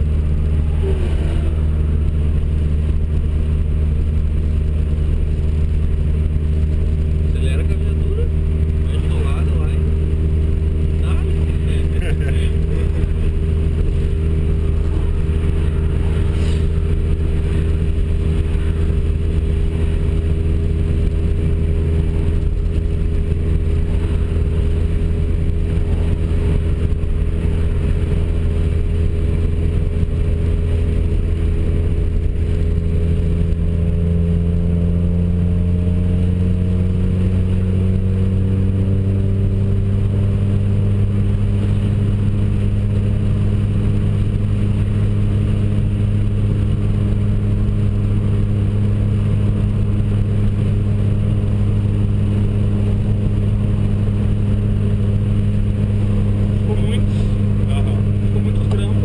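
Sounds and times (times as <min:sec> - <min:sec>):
car engine droning: 0:00.0 - 0:59.0
tyre and road noise: 0:00.0 - 0:59.0.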